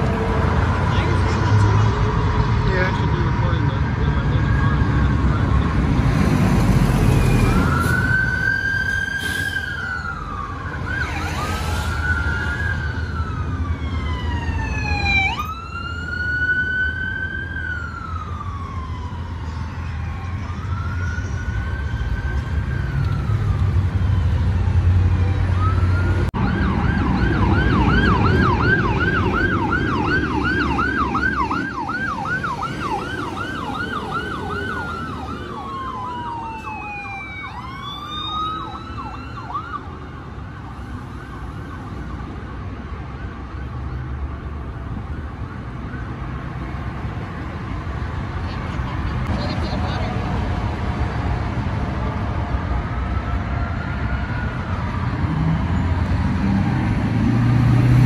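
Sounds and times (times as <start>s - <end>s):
fire truck siren wailing: 0.0s - 58.0s
rumble of engines and traffic: 0.0s - 58.0s.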